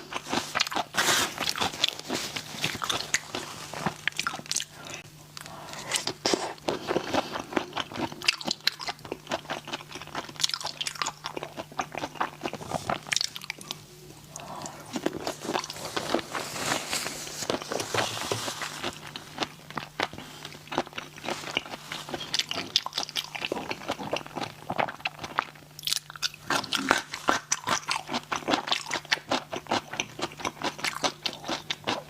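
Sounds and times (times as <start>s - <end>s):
person chewing and crunching: 0.0s - 32.0s.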